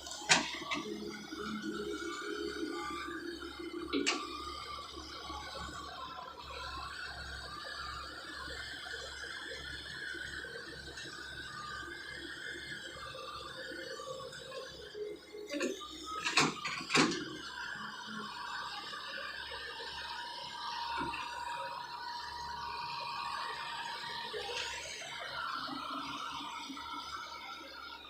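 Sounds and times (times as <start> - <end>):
heavy machinery running: 0.0 - 28.0.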